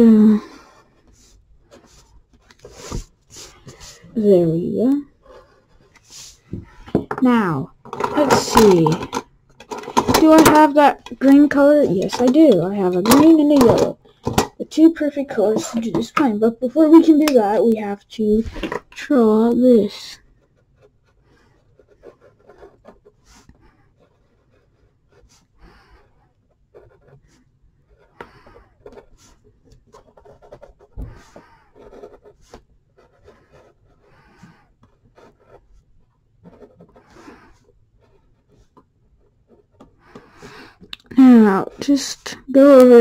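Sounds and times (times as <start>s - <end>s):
pencil scratching on paper: 0.4s - 4.5s, 5.1s - 9.1s, 9.8s - 43.0s.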